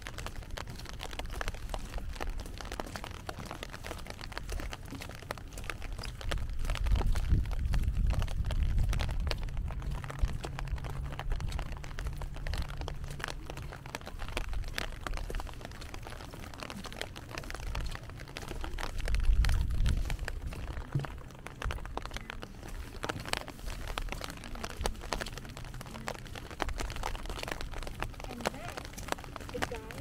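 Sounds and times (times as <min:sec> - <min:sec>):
raindrops hitting: 0:00.0 - 0:30.0
low rumble: 0:05.8 - 0:29.9.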